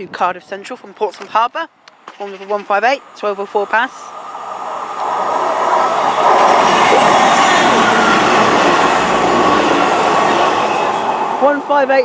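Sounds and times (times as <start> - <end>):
train passing at speed: 1.7 - 12.0.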